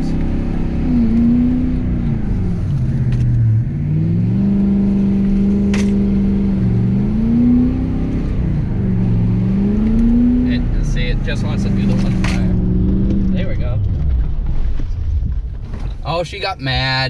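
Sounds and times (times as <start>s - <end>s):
diesel engine revving: 0.0s - 14.4s.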